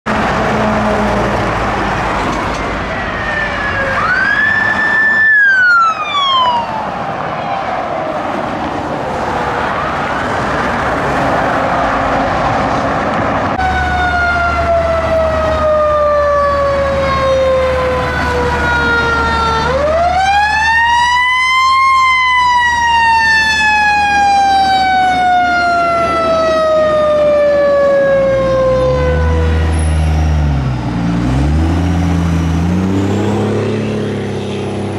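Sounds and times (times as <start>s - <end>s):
fire engine sirens wailing: 0.1s - 34.9s.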